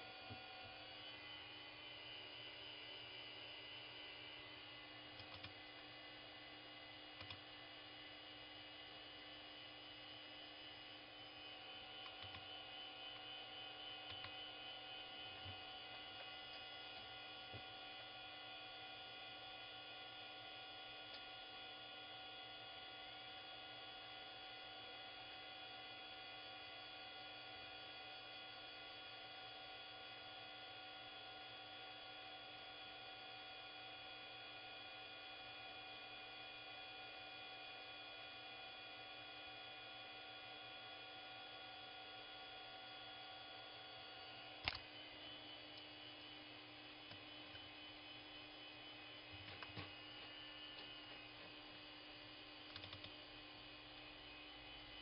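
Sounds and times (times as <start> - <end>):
faint electrical hum and whine: 0.0 - 55.0.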